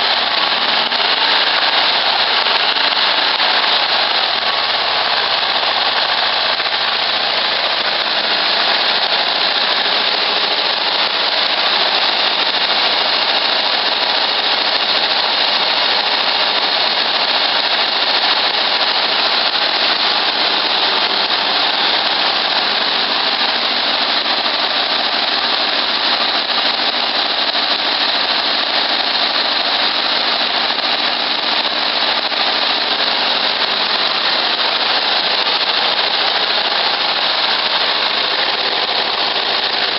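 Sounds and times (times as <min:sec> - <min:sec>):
car engine roaring: 0:00.0 - 0:39.9.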